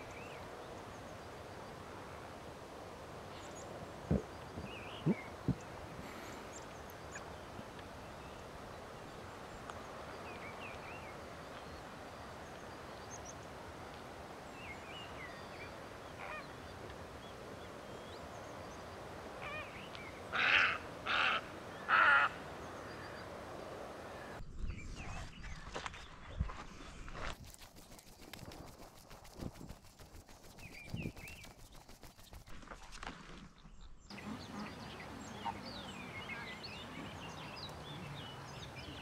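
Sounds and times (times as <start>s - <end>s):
small birds chirping faintly: 0.0s - 39.0s.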